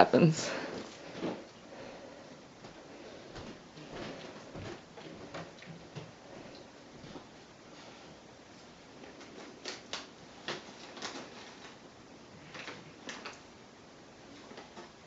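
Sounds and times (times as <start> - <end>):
quiet crackles and clicks of treats: 0.5 - 15.0.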